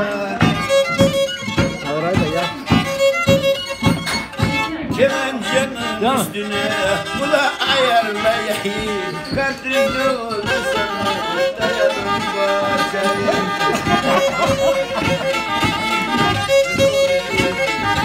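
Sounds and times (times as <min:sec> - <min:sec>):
bowed fiddle folk melody: 0:00.0 - 0:18.0
fiddle drone note: 0:00.0 - 0:18.0.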